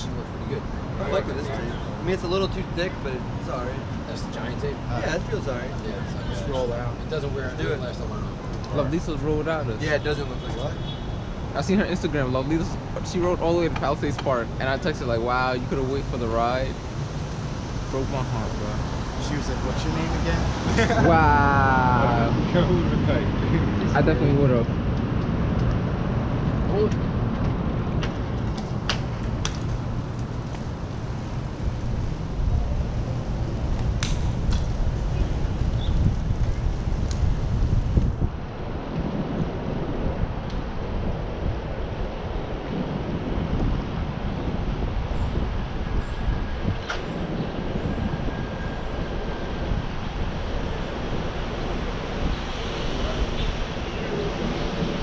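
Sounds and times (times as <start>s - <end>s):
street traffic rumble: 0.0s - 55.0s
wind rushing over microphone: 0.0s - 55.0s.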